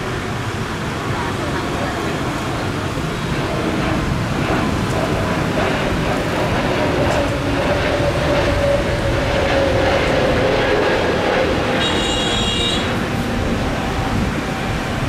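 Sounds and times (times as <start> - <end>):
jet airliner climbing: 0.0 - 15.0.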